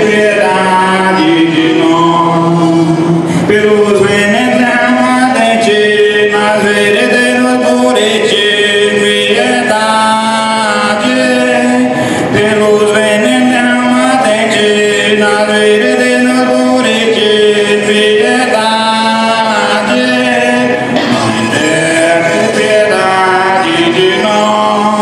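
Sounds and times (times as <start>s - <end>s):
slow chant-like singing: 0.0s - 25.0s.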